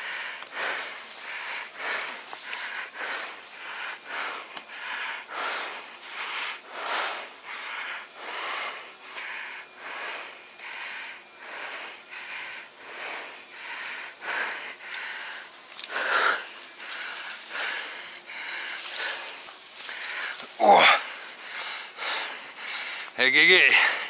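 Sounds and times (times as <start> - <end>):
man breathing hard: 0.0 - 24.0.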